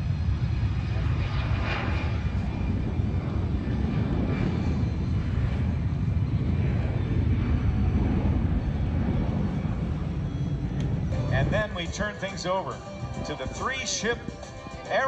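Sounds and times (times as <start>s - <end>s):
airplane engine rumble: 0.0s - 15.0s.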